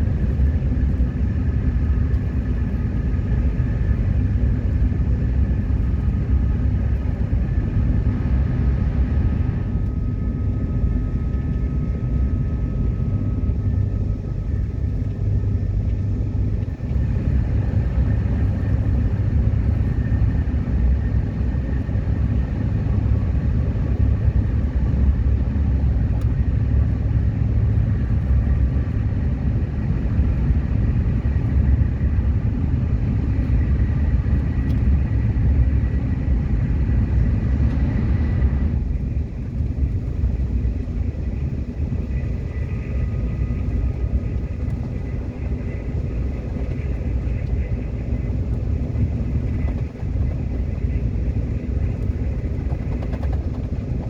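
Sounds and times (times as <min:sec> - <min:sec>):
subway train rumbling on track: 0:00.0 - 0:54.0.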